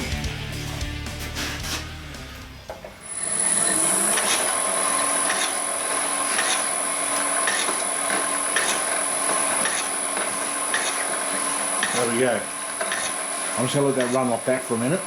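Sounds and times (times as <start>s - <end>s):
crusher machine whining: 1.4s - 15.0s.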